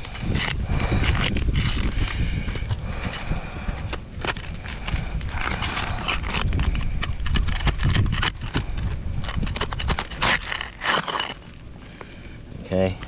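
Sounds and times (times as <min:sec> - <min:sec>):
metal tool scraping shingles: 0:00.0 - 0:11.6
shingles tearing: 0:00.0 - 0:12.2
steady low rumble: 0:00.0 - 0:13.0.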